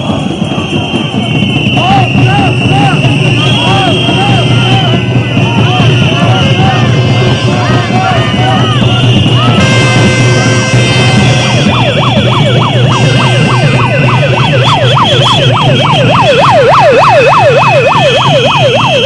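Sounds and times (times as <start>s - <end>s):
protest crowd din: 0.0s - 19.0s
siren wailing up and down: 0.0s - 19.0s.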